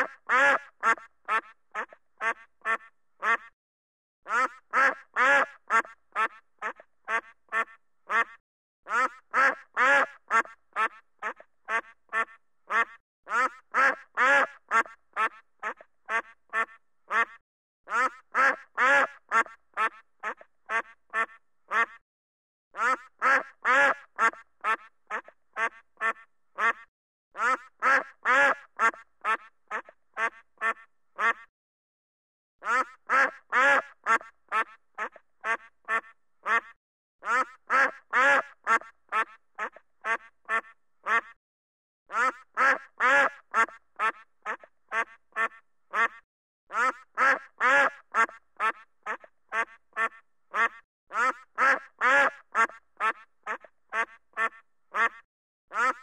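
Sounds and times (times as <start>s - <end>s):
duck quacking: 0.0s - 3.5s, 4.3s - 22.0s, 22.7s - 31.5s, 32.6s - 41.4s, 42.1s - 56.0s.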